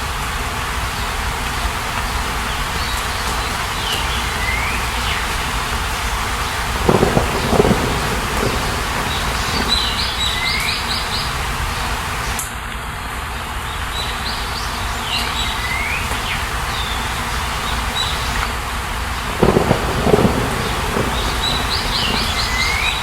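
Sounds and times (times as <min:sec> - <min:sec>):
songbird singing: 0:00.9 - 0:12.4, 0:13.6 - 0:18.5, 0:19.1 - 0:23.0.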